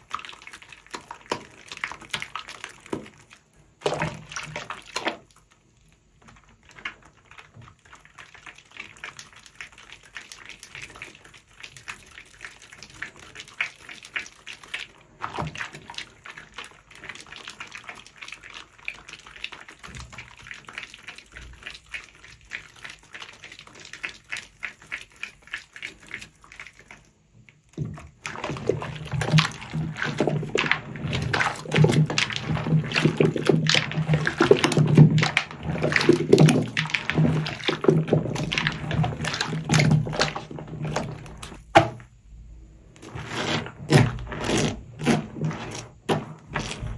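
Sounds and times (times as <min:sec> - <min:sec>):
soapy sponge squelching: 0:00.0 - 0:05.2, 0:09.0 - 0:27.1, 0:27.8 - 0:46.9.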